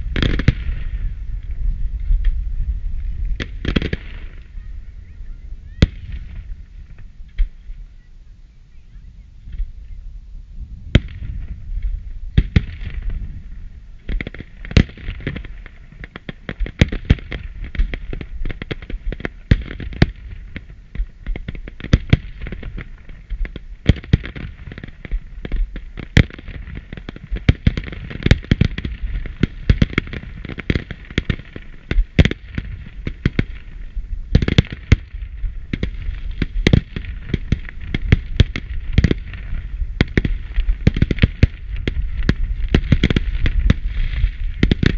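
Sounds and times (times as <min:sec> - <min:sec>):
fireworks bangs and crackles: 0:00.0 - 0:07.9, 0:10.6 - 0:44.9.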